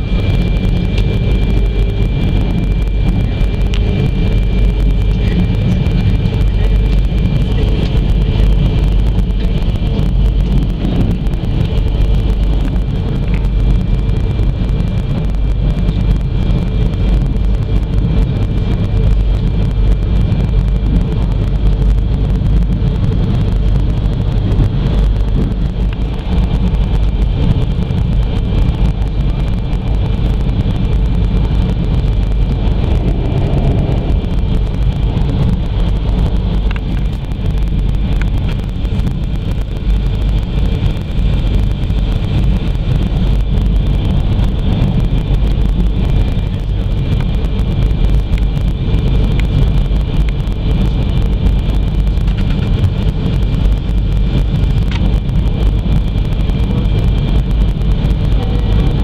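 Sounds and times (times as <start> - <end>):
thin steady whine: 0.0 - 59.0
train rumbling: 0.0 - 59.0.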